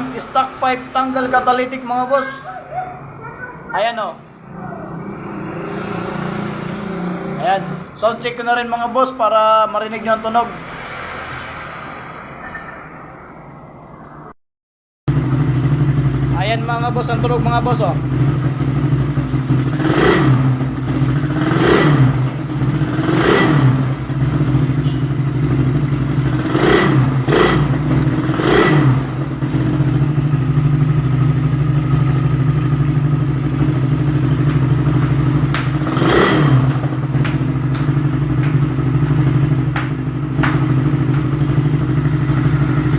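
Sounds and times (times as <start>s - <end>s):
motorcycle engine idling and revving: 0.0s - 2.4s, 3.0s - 12.6s, 15.1s - 42.9s.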